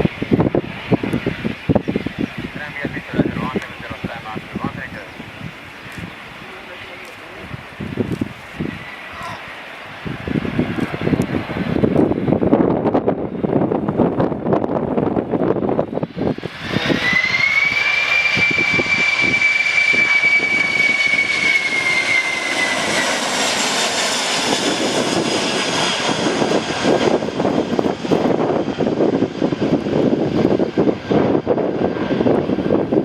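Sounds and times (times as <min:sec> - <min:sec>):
jet engines whining: 0:00.0 - 0:33.0
wind buffeting microphone: 0:00.0 - 0:33.0.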